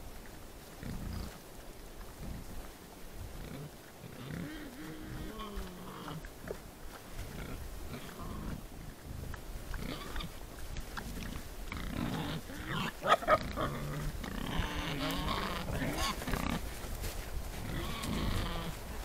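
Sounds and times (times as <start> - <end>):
wild boars grunting: 0.8 - 1.4, 3.2 - 16.9, 17.5 - 19.0.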